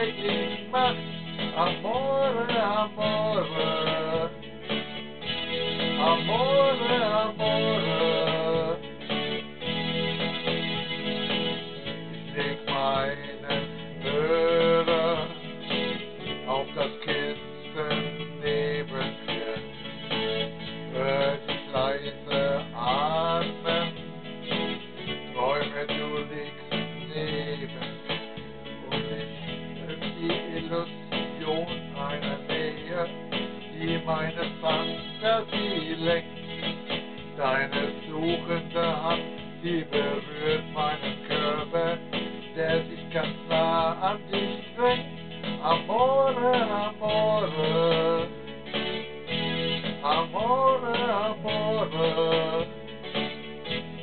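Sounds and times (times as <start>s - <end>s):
person singing: 0.0s - 4.5s, 5.6s - 9.2s, 12.2s - 24.2s, 25.0s - 48.6s, 49.9s - 53.2s
electronic keyboard music: 0.0s - 54.0s.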